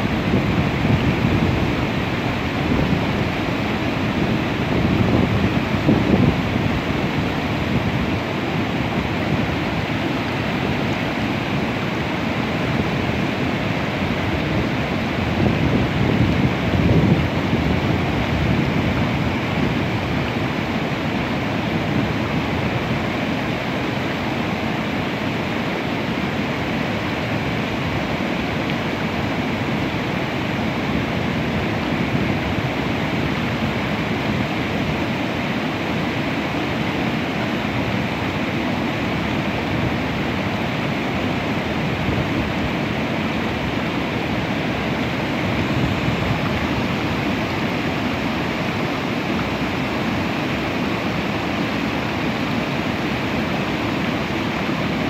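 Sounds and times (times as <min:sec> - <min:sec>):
river water pouring over dam: 0:00.0 - 0:55.0.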